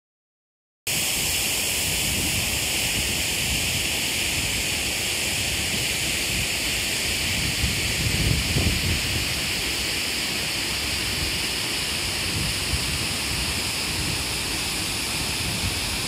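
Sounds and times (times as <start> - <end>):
water rushing over riffles: 0.9 - 16.0.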